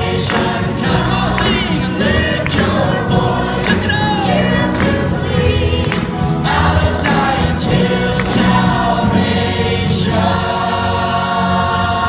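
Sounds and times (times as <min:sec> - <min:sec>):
choir singing gospel song: 0:00.0 - 0:12.0.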